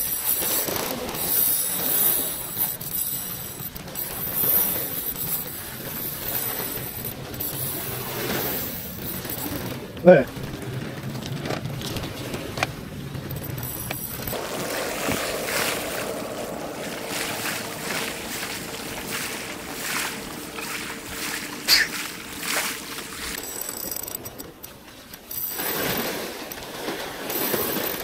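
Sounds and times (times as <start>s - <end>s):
waves washing against rocks: 0.0s - 24.3s.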